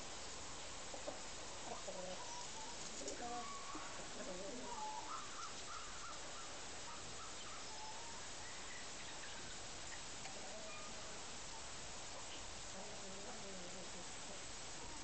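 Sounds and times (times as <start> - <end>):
background hiss: 0.0 - 15.0
faint bird calls: 0.2 - 15.0.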